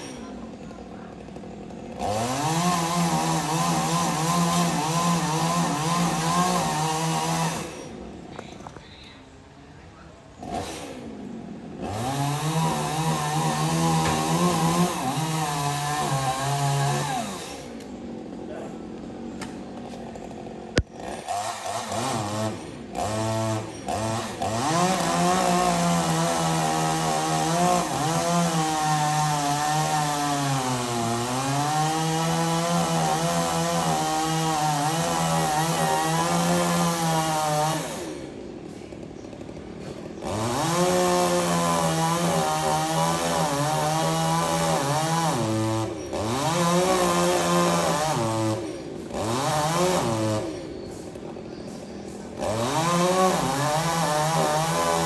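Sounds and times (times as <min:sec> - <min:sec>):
chainsaw engine revving: 0:00.0 - 0:08.8, 0:10.3 - 0:55.0.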